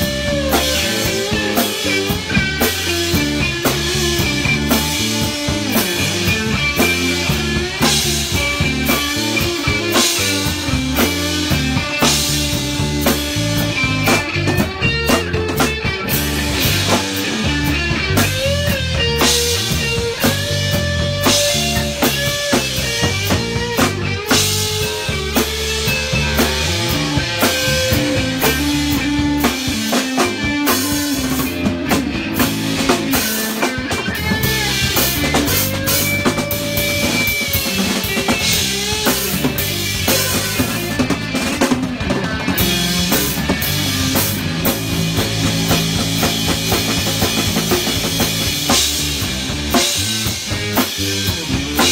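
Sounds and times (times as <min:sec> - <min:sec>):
bending electric guitar line: 0:00.0 - 0:51.9
drum kit playing: 0:00.0 - 0:51.9.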